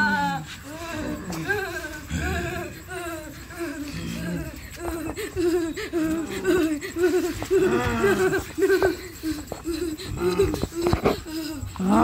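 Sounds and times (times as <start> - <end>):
people laughing: 0.0 - 12.0
people talking: 0.0 - 12.0.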